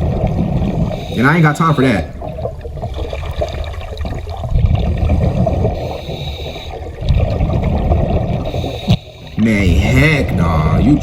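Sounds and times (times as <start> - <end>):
water churning and splashing: 0.0 - 11.0.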